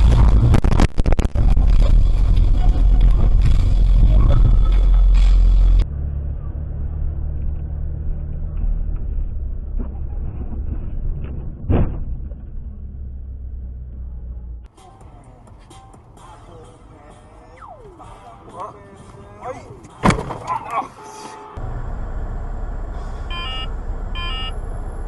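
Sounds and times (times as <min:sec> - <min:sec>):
car engine rumble and road noise: 0:00.0 - 0:25.0.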